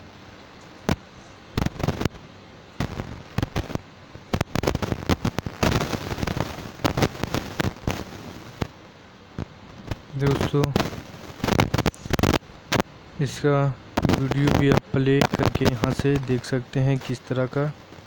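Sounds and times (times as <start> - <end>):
sharp bangs and crackles: 0.8 - 2.2, 2.8 - 12.9, 13.9 - 18.0.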